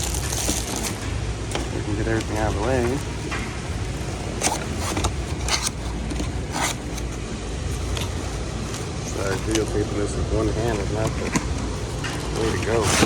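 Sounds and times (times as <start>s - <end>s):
packaging scraping and rustling: 0.0s - 13.0s
steady low hum: 0.0s - 13.0s.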